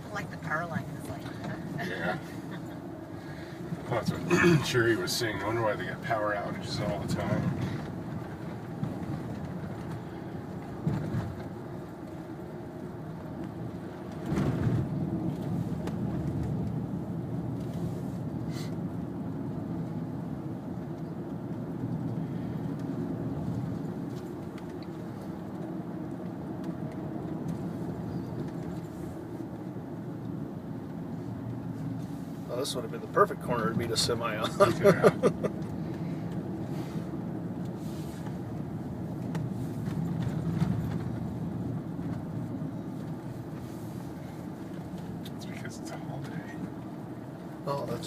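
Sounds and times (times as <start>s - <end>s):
vehicle engine and tyre rumble: 0.0s - 48.0s.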